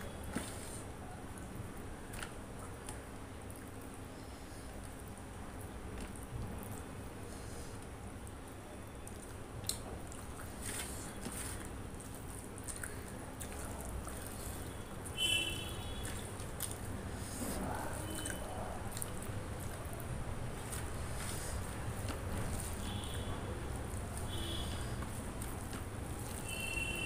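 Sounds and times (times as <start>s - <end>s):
fingers mixing rice squishing: 0.0s - 27.0s
wet chewing and mouth sounds: 0.0s - 27.0s.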